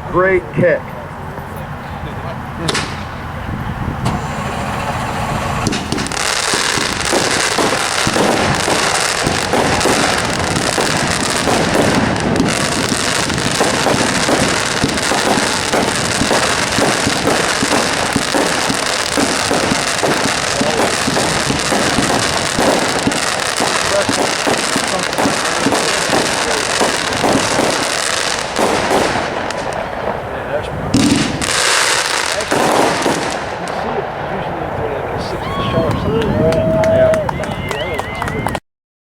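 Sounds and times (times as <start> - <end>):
fireworks barrage: 0.0 - 37.2.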